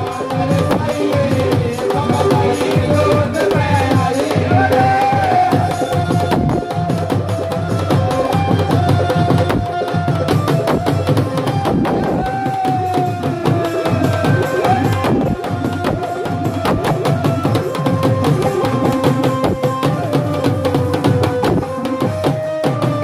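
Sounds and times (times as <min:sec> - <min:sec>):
barrel drum beating fast rhythm: 0:00.0 - 0:23.0.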